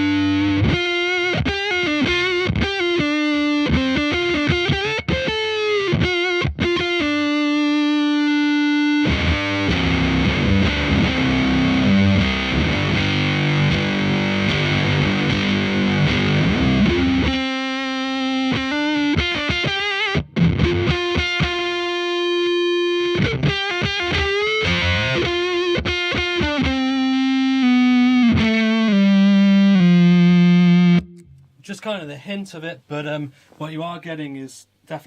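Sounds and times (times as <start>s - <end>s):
fuzzy electric guitar: 0.0s - 31.4s.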